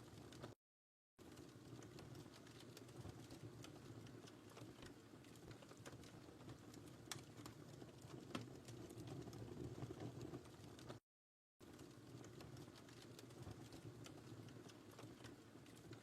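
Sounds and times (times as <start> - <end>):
fire crackles and pops: 0.0 - 0.6, 1.2 - 11.0, 11.6 - 16.0
fireplace flame rumble: 0.0 - 0.6, 1.2 - 11.0, 11.6 - 16.0.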